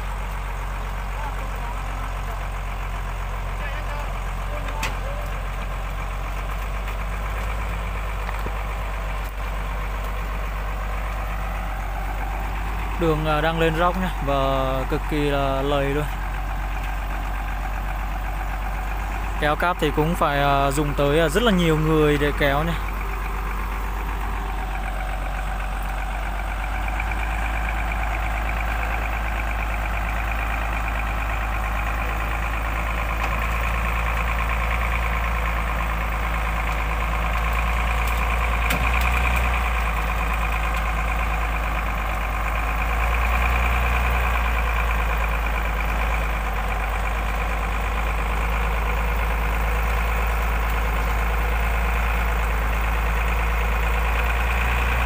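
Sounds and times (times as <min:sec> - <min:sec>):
truck diesel engine humming: 0:00.0 - 0:55.0.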